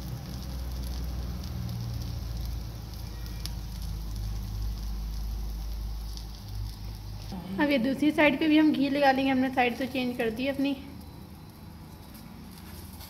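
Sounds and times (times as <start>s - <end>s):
flatbread sizzling in oil: 0.0s - 13.0s
gas flame rumble: 0.0s - 13.0s.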